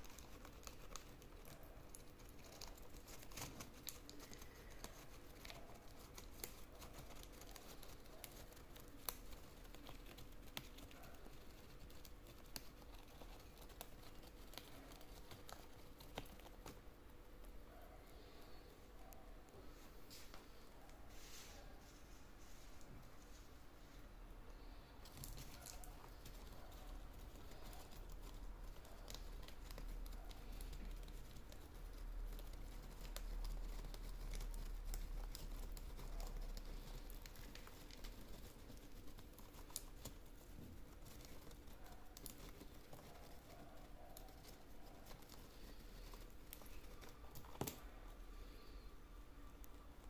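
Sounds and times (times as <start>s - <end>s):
faint rustling and crinkling: 0.0s - 50.0s.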